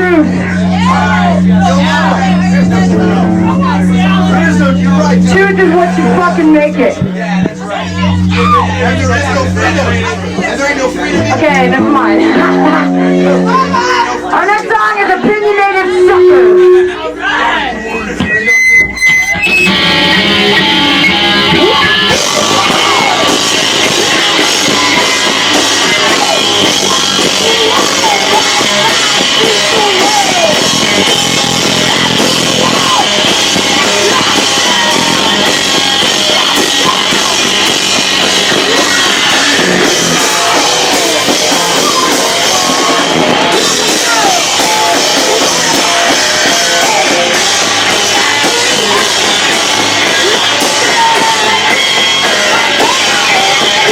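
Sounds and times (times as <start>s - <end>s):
distorted live punk rock band: 0.0s - 53.9s.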